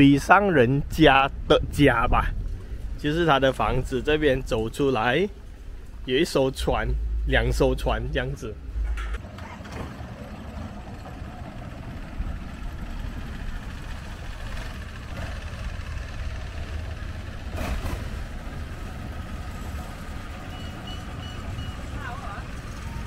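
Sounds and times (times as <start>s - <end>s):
boat engine rumbling: 0.8s - 23.0s.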